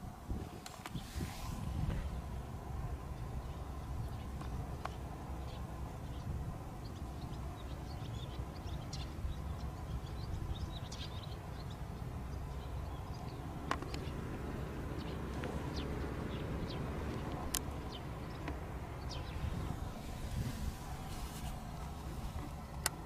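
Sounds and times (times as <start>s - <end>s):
steady low rumble: 0.0s - 23.0s
small birds chirping: 2.0s - 23.0s.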